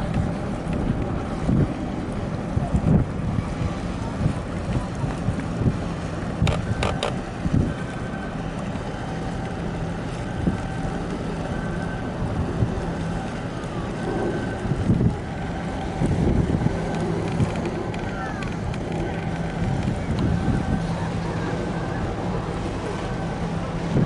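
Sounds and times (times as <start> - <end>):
boat engine humming: 0.0 - 24.0
water noise: 0.0 - 24.0
wind buffeting microphone: 0.0 - 24.0.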